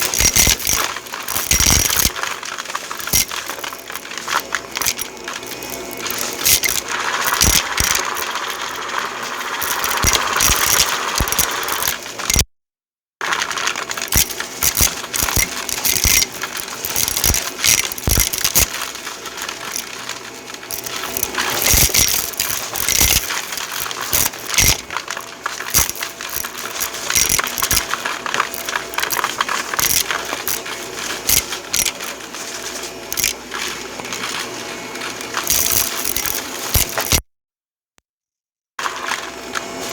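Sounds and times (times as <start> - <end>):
small hard objects rattling: 0.0 - 12.4, 13.2 - 37.2.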